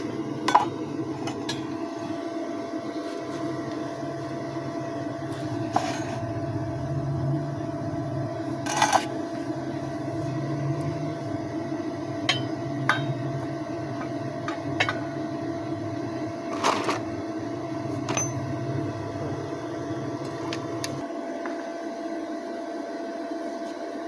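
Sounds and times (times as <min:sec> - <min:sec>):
low drone: 0:00.0 - 0:21.0.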